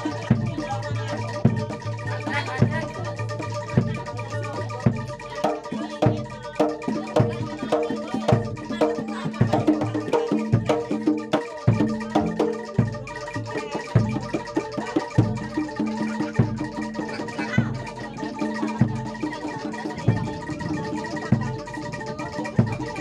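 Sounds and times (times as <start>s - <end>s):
gamelan music: 0.0s - 23.0s.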